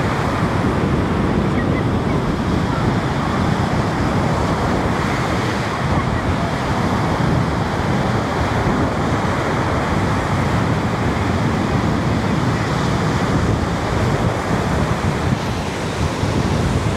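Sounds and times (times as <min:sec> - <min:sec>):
sea surf washing onto beach: 0:00.0 - 0:16.9
wind rumbling on the microphone: 0:00.0 - 0:16.9.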